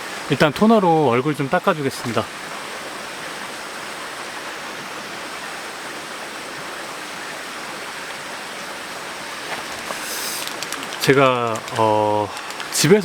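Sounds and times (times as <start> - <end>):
mountain stream flowing: 0.0 - 13.0.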